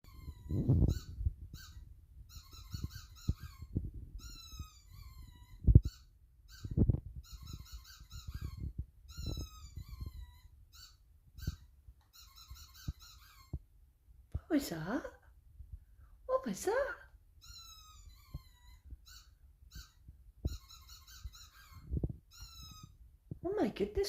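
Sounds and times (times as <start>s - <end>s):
squeaky dog toy squeaks: 0.0s - 13.6s, 17.4s - 23.1s.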